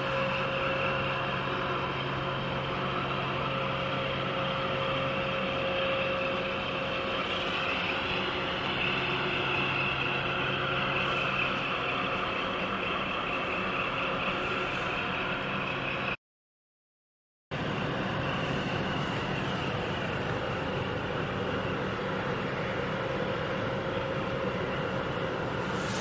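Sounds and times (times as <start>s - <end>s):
engine drone with high whine: 0.0s - 16.2s, 17.5s - 26.0s.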